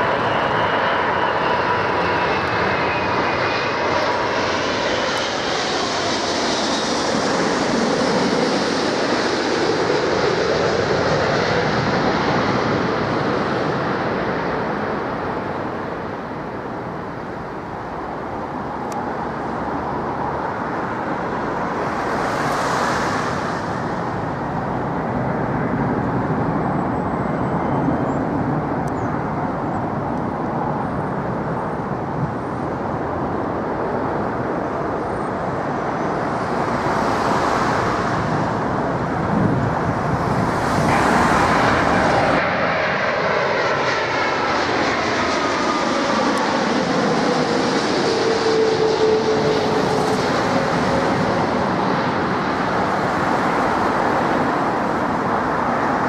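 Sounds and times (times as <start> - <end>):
jet engines passing overhead: 0.0 - 56.0.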